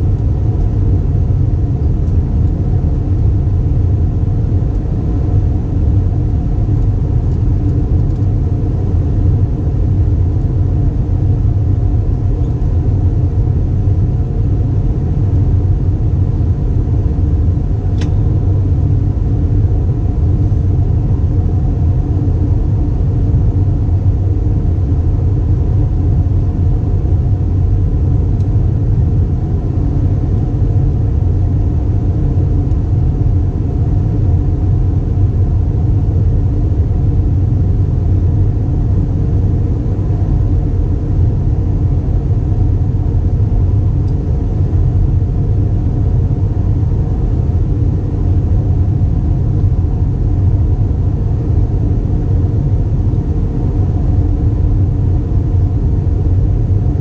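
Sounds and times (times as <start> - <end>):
aircraft engine and airflow drone: 0.0 - 57.0
faint steady hum: 0.0 - 57.0.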